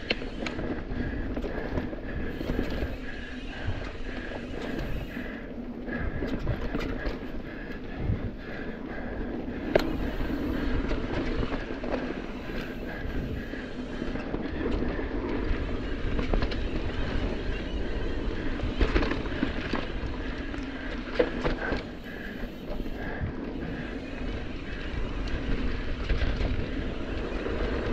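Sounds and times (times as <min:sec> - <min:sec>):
bike chain and frame rattling: 0:00.0 - 0:27.9
bike tyres on dirt trail: 0:00.0 - 0:27.9.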